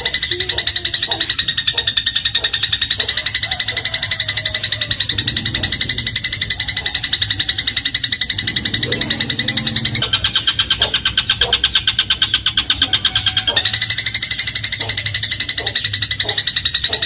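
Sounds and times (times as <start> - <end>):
sparrow chattering trill: 0.0 - 17.0.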